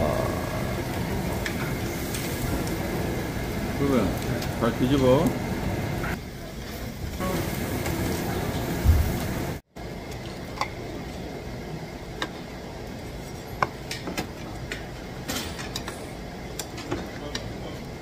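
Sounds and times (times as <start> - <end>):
restaurant background noise: 0.0 - 18.0.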